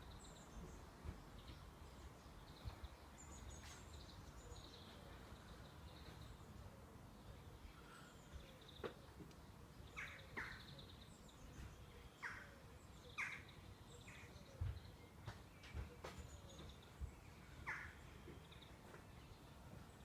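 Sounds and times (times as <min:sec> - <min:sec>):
faint birds chirping: 0:00.0 - 0:20.0.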